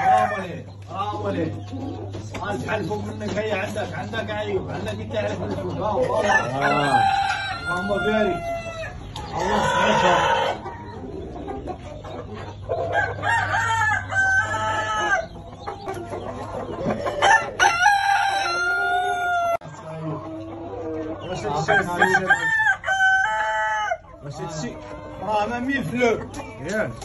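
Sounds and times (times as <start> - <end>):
roosters crowing: 0.0 - 0.8, 5.7 - 27.0
chickens clucking: 0.0 - 27.0.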